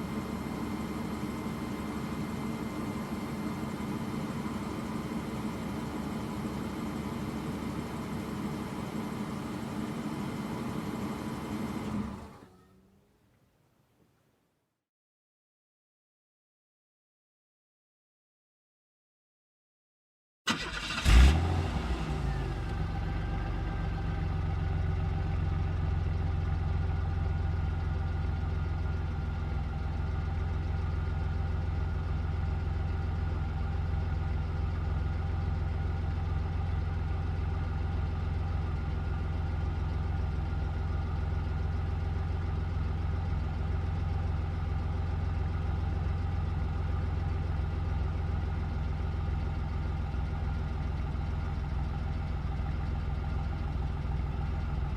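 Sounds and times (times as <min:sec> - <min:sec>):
car engine idling: 0:00.0 - 0:12.2, 0:20.5 - 0:54.9.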